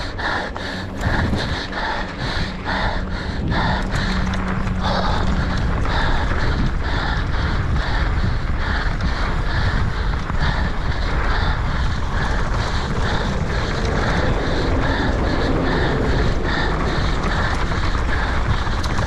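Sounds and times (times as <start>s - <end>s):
person breathing hard: 0.0s - 19.0s
wind rush on microphone: 0.0s - 19.0s.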